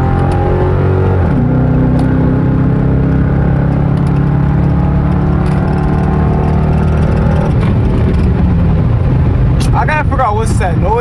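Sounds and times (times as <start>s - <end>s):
car exhaust drone: 0.0s - 11.0s.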